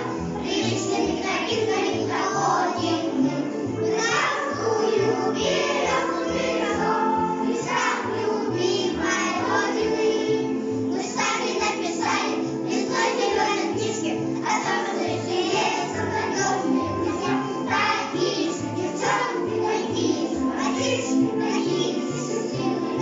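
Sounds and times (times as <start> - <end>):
children singing: 0.0 - 23.0
musical accompaniment: 0.0 - 23.0.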